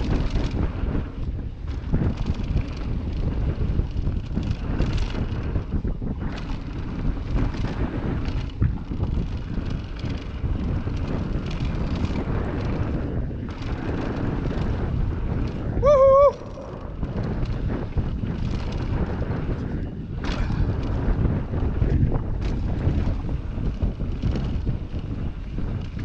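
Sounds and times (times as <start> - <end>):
tyres rumbling over dirt trail: 0.0 - 26.0
wind noise on microphone: 0.0 - 26.0.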